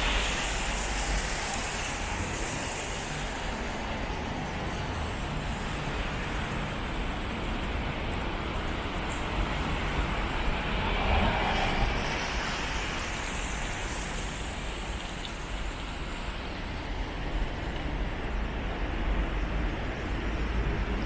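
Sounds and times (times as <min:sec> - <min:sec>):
tyres hissing on wet road: 0:00.0 - 0:21.0.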